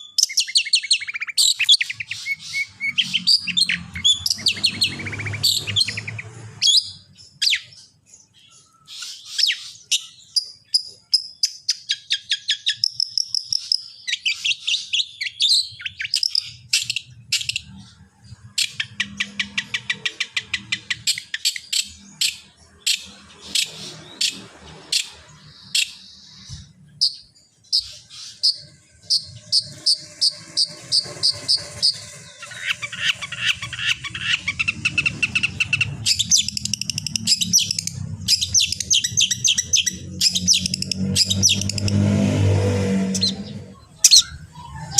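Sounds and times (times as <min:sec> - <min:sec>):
bird singing chirps and trills: 0:00.0 - 0:44.9.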